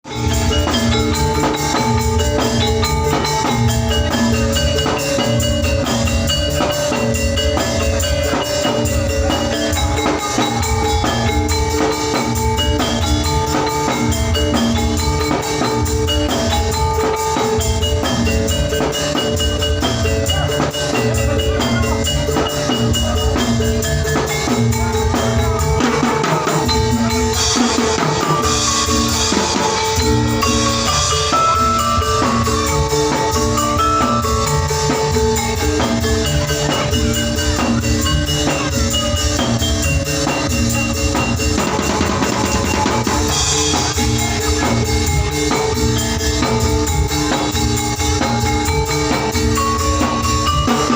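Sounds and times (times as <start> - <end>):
bamboo slit drum ensemble: 0.0 - 50.9.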